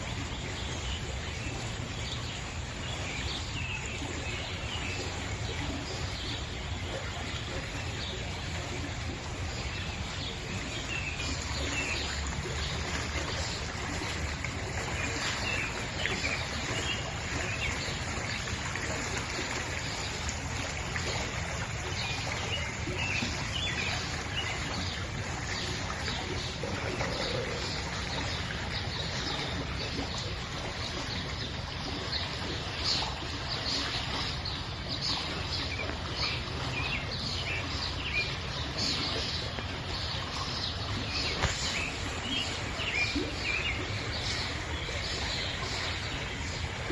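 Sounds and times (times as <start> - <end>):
birds chirping: 0.0 - 46.9
forest stream flowing: 0.0 - 46.9.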